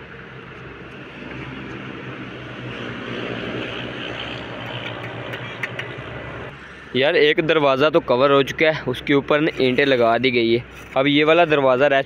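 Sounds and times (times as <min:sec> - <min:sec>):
engine-like drone: 0:00.0 - 0:11.0.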